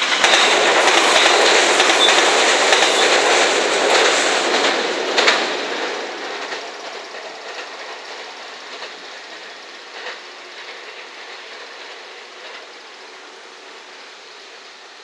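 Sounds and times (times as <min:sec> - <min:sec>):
faint clacks over rail joints: 0:00.0 - 0:12.8
train wheel-on-rail rumble: 0:00.0 - 0:15.0.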